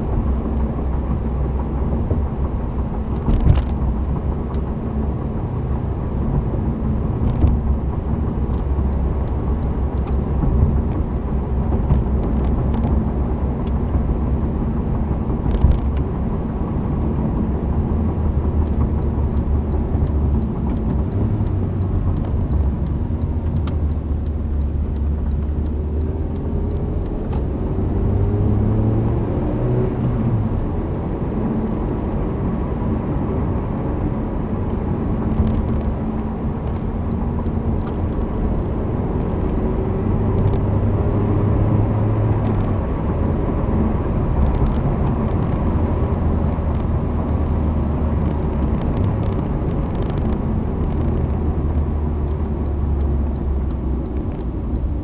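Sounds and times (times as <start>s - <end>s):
car engine and tyre roar: 0.0s - 55.0s.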